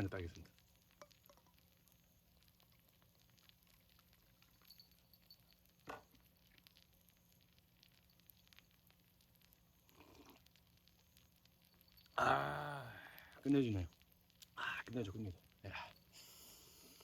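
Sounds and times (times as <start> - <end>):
pancake frying crackling: 0.0 - 17.0.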